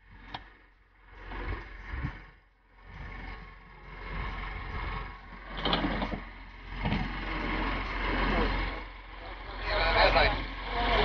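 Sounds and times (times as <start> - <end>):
steady low hum: 0.0 - 11.0
vehicle engine running: 0.0 - 11.0.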